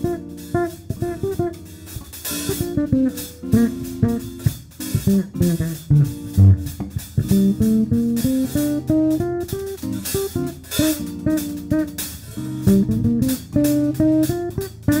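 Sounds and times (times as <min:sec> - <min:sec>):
bass line: 0:00.0 - 0:15.0
plucked guitar melody: 0:00.0 - 0:15.0.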